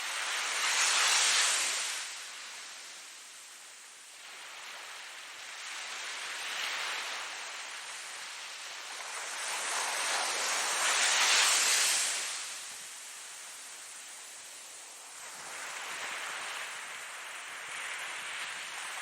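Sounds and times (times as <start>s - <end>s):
ocean waves on shore: 0.0s - 19.0s.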